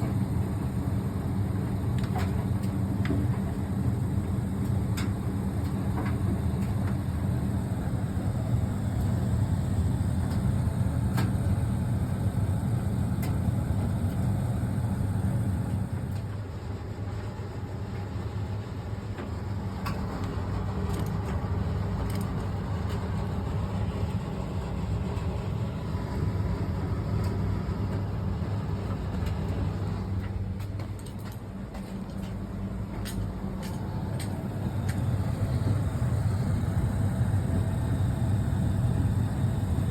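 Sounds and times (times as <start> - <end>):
clothes dryer running: 0.0 - 39.9.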